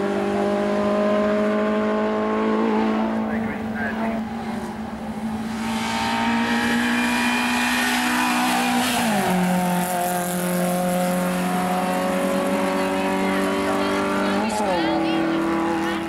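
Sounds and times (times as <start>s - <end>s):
car engine revving by: 0.0s - 16.0s.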